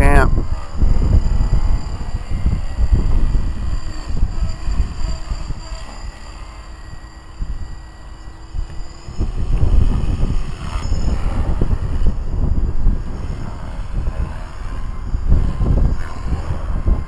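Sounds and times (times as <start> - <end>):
rc helicopter whine: 0.0 - 17.0
wind buffeting microphone: 0.0 - 17.0.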